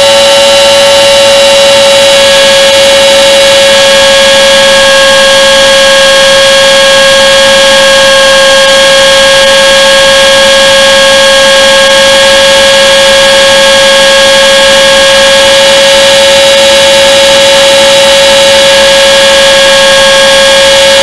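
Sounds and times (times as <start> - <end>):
electric motor high whine: 0.0 - 21.0.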